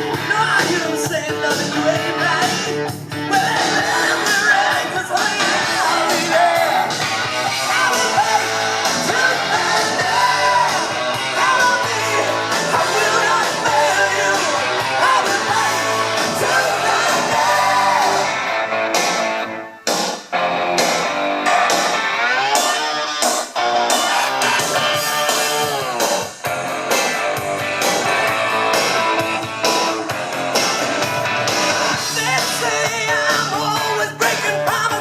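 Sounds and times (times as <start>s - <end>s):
rock song with singing and guitars: 0.0s - 35.0s.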